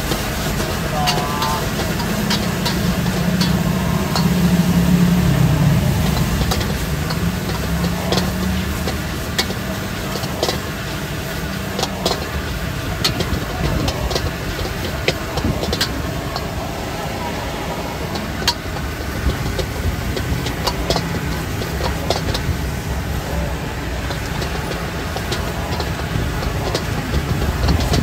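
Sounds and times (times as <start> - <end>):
road vehicle engine rumble: 0.0 - 28.0
traffic drone: 0.0 - 28.0.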